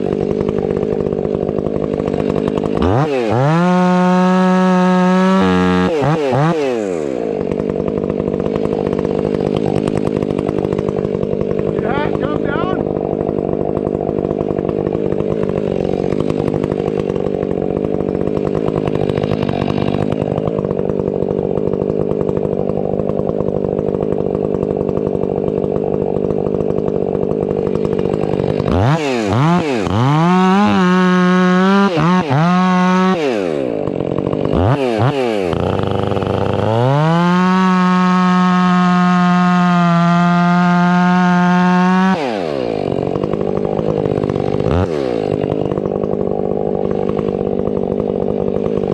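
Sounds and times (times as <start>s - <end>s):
chainsaw engine revving and idling: 0.0s - 48.9s.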